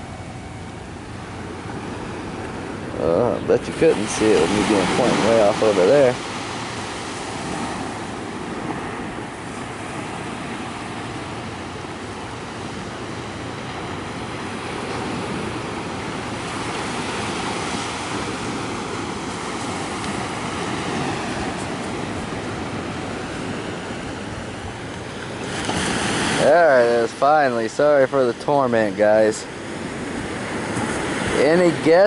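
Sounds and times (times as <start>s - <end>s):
ocean surf on beach: 0.0s - 32.0s
wind: 0.0s - 32.0s.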